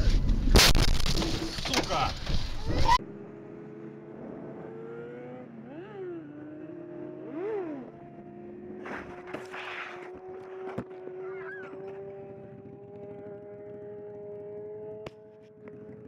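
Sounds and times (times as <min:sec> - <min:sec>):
vehicle engine revving: 0:02.4 - 0:16.0.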